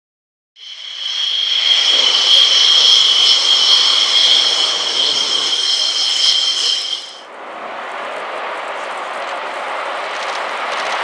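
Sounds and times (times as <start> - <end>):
jet engines roaring with whine: 0.6 - 11.0.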